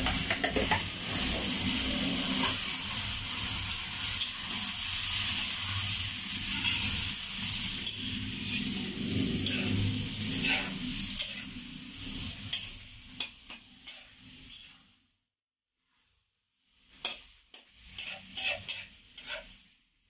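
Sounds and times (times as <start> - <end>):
meat sizzling in hot oil: 0.0 - 15.2, 16.7 - 20.0.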